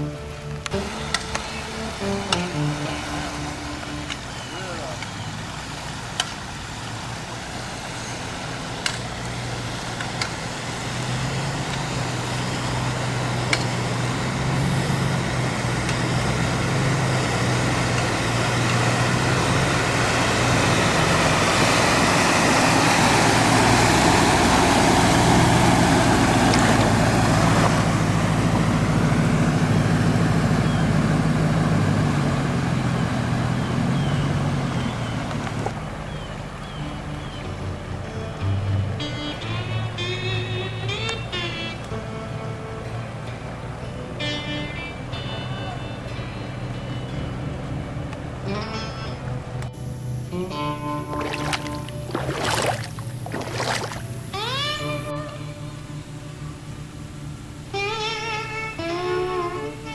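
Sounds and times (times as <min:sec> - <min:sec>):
vehicle engine running: 0:00.0 - 0:48.7, 0:51.0 - 0:55.0.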